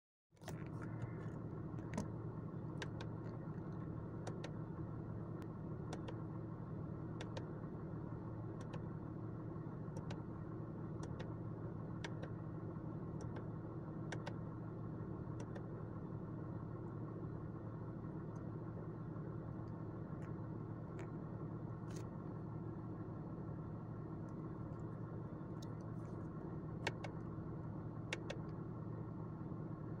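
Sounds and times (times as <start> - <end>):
diesel engine idling: 0.4 - 30.0.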